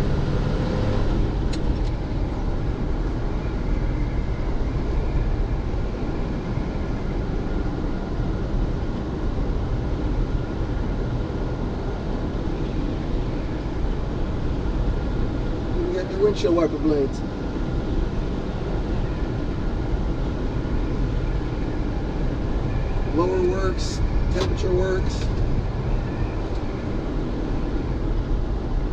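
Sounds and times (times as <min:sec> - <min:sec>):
truck engine and road rumble: 0:00.0 - 0:28.9.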